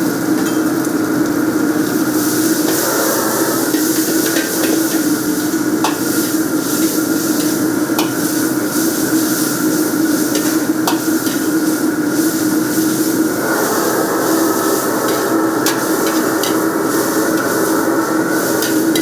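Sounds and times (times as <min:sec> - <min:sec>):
food sizzling in a pan: 0:00.0 - 0:19.0
steady mechanical hum: 0:00.0 - 0:19.0.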